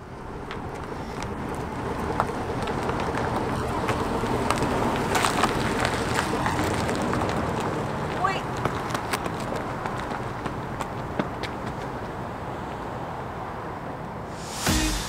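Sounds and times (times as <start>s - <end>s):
grit crackling under tyres: 0.0s - 14.2s
car engine passing: 0.3s - 15.0s.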